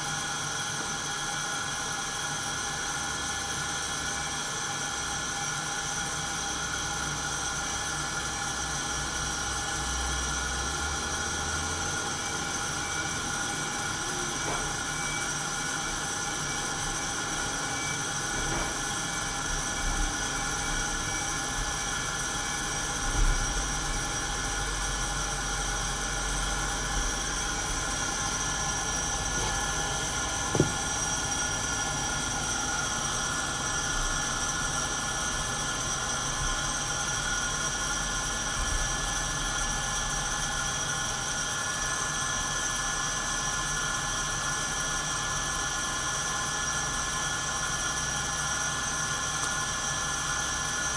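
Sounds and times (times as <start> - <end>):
coffee roaster whirring: 0.0 - 50.9.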